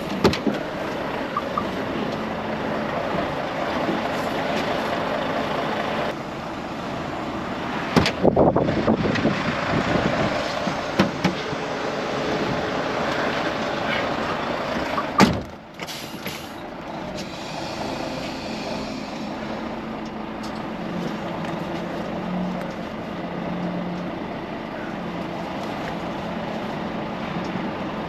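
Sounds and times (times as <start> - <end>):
heavy truck running: 0.0 - 28.0.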